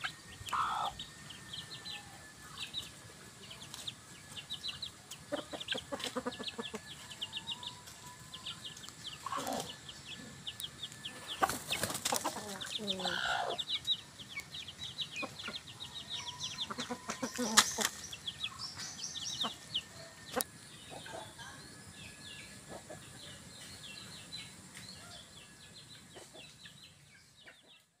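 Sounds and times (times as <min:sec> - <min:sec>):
chickens chirping: 0:00.0 - 0:27.9.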